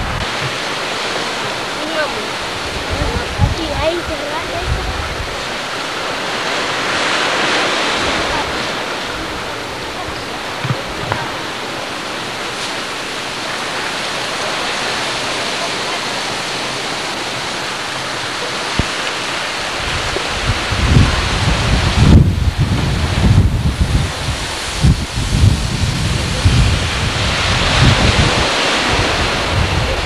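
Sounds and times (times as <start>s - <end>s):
breaking surf: 0.0s - 30.0s
wind: 0.0s - 30.0s.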